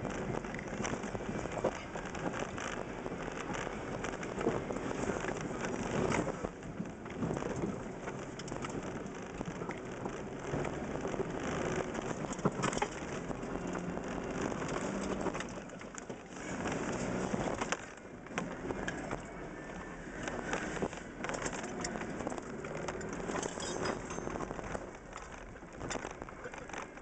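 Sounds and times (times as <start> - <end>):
engine low rumble: 0.0 - 27.0
mud clattering on windscreen: 0.0 - 27.0.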